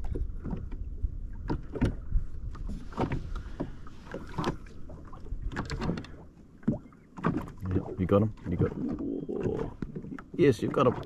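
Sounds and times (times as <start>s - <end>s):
small waves slapping a hull: 0.0s - 11.0s.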